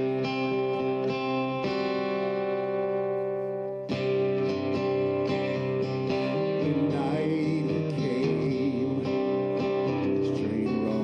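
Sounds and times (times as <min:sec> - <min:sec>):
guitar strumming chords: 0:00.0 - 0:11.0.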